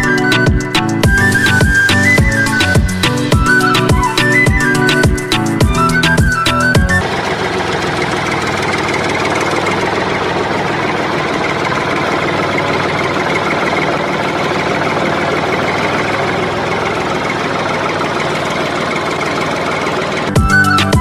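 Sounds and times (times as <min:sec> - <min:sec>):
engine idling with rapid chugging: 0:00.0 - 0:21.0.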